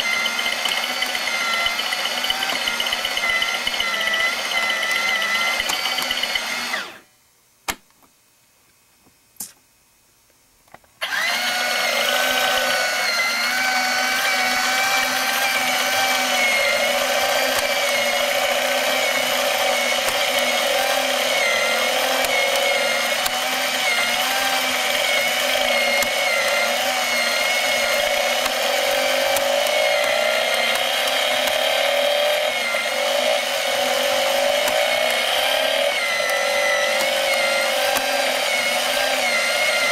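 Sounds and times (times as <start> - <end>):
small electric motor whirring: 0.0 - 7.1, 11.0 - 39.9.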